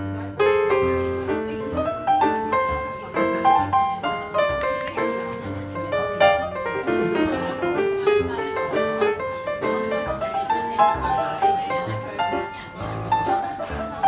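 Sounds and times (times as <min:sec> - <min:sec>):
light piano melody: 0:00.0 - 0:14.0.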